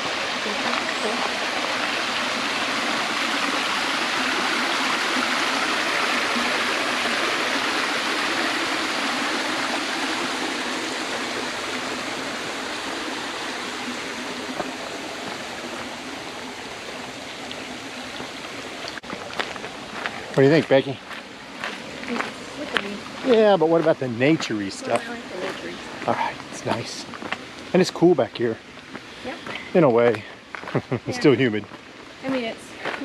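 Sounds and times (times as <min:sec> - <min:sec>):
stream running over rocks: 0:00.0 - 0:33.0.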